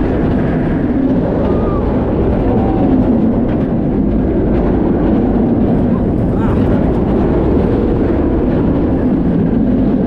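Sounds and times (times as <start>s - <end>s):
roller coaster wheels rumbling: 0.0s - 10.0s
wind rushing over camera: 0.0s - 10.0s.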